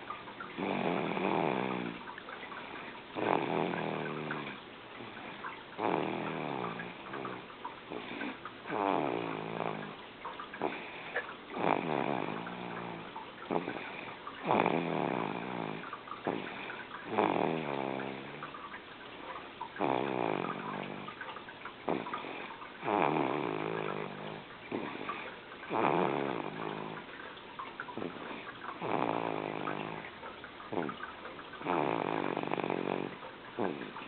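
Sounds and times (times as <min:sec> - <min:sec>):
loud snoring: 0:00.6 - 0:02.1, 0:03.2 - 0:10.0, 0:10.6 - 0:18.6, 0:19.8 - 0:21.2, 0:21.8 - 0:27.1, 0:28.0 - 0:30.1, 0:30.7 - 0:31.0, 0:31.6 - 0:34.0.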